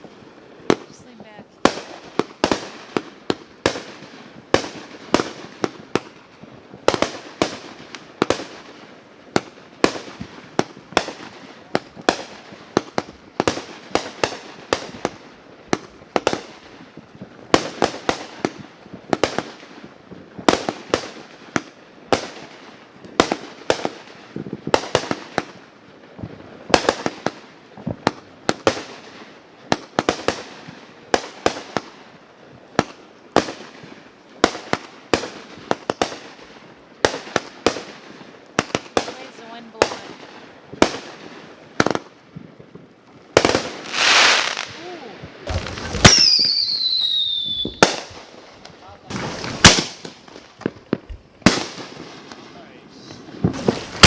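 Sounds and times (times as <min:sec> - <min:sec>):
fireworks bangs and pops: 0:00.0 - 0:54.0.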